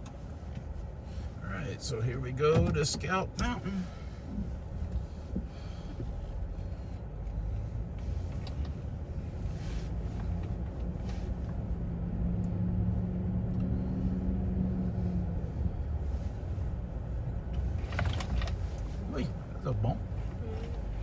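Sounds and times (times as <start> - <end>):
car engine hum: 0.0 - 21.0
road rumble inside car: 0.0 - 21.0.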